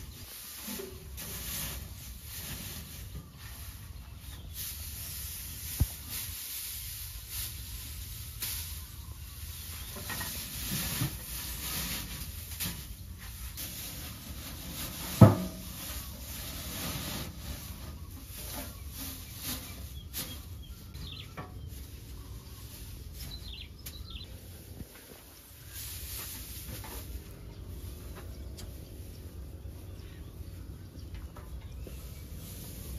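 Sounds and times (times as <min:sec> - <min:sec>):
dry straw rustling: 0:00.0 - 0:32.9.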